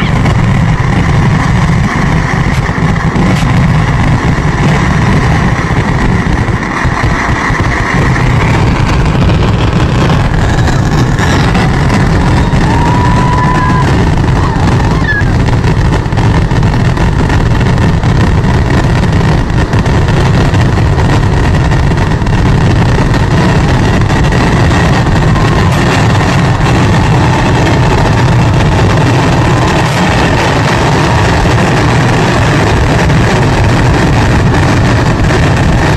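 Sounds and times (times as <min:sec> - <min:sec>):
firecrackers exploding rapidly: 0:00.0 - 0:35.9.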